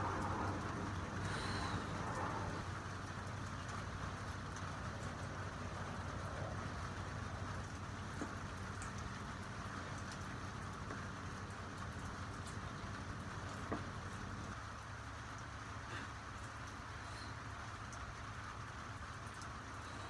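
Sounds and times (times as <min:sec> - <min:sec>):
constant low hum: 0:00.0 - 0:20.0
steady rain falling: 0:00.0 - 0:20.0.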